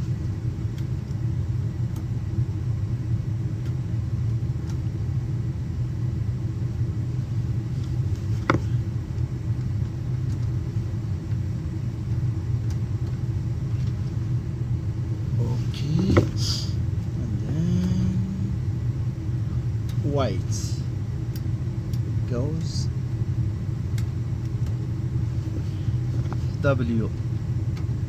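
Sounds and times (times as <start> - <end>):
low mechanical rumble: 0.0 - 28.0.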